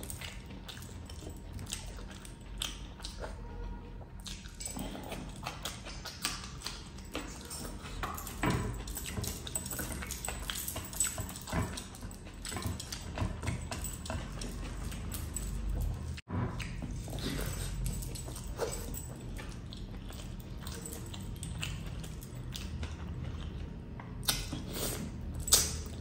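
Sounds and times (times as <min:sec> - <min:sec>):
chewing with wet mouth smacks: 0:00.0 - 0:26.0.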